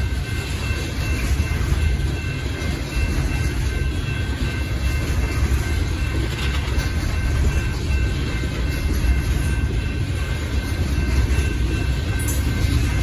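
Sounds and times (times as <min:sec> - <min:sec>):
crossing bell ringing: 0:00.0 - 0:13.0
train cars rumbling on rails: 0:00.0 - 0:13.0.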